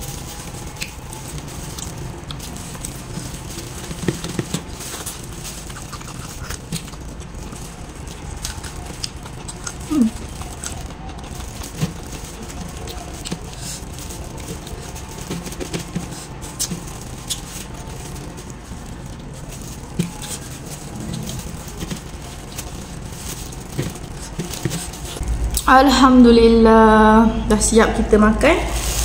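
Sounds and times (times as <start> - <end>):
plastic glove crinkling: 0.0 - 25.7, 28.4 - 29.0
chewing and lip smacking: 0.3 - 25.2.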